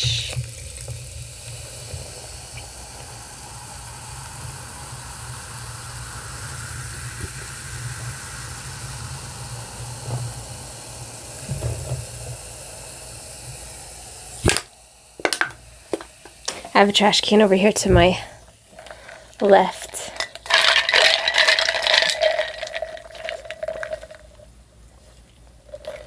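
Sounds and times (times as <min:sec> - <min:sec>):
steady hiss: 0:00.0 - 0:25.7.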